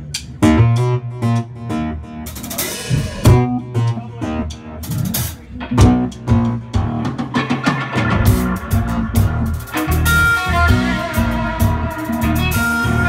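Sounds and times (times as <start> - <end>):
bass guitar: 0.0 - 13.0
electric guitar: 0.4 - 13.0
drum kit kick and cymbal hits: 2.3 - 13.0.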